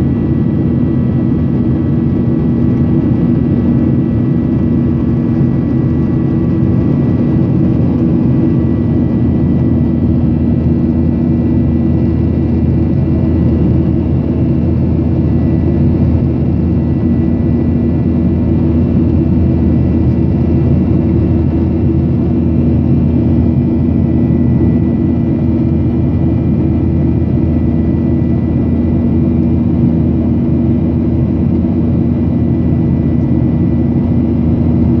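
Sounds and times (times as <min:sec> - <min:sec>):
constant low hum: 0:00.0 - 0:35.0
jet engines droning: 0:00.0 - 0:35.0.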